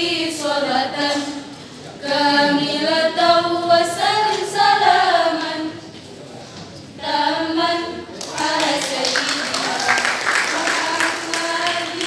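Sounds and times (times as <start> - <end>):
women's choir singing in harmony: 0.0 - 5.9, 6.9 - 12.0.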